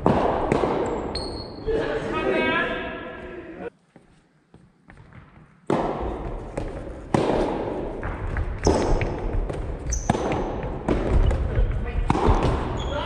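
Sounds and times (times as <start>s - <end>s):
rackets hitting ball in echoing hall: 0.0s - 13.0s.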